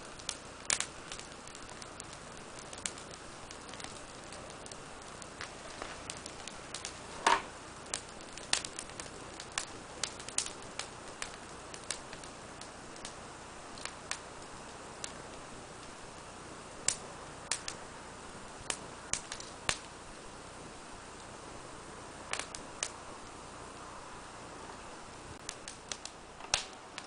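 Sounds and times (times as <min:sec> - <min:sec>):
faint steady hiss: 0:00.0 - 0:27.0
fire crackling and popping: 0:00.0 - 0:27.0.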